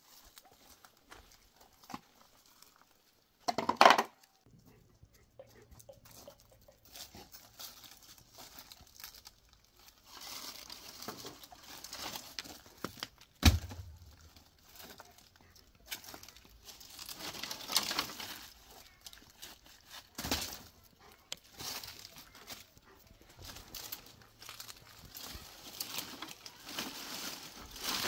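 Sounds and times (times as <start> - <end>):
footsteps on gravel and leaves: 0.0 - 3.2, 6.9 - 28.0
twigs crackling underfoot: 0.0 - 3.5, 6.2 - 28.0.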